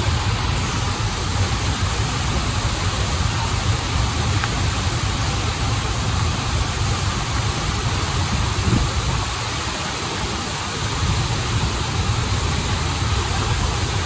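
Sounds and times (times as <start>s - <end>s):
stream and waterfall rushing: 0.0s - 14.0s.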